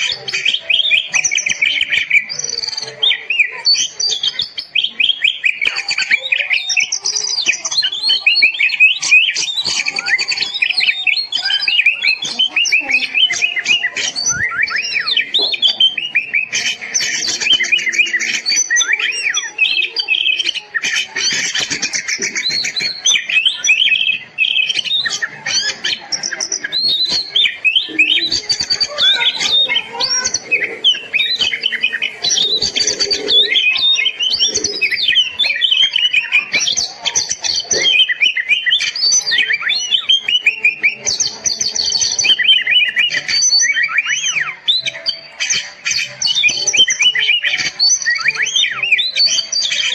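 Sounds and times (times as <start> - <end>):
bird singing chirps and trills: 0.0 - 49.9.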